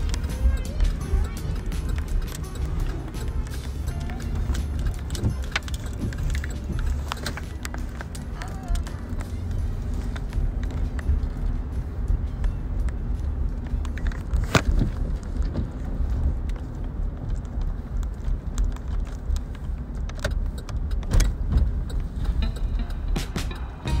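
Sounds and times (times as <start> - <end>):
car cabin rumble: 0.0 - 24.0
light rattles and clicks: 0.0 - 24.0.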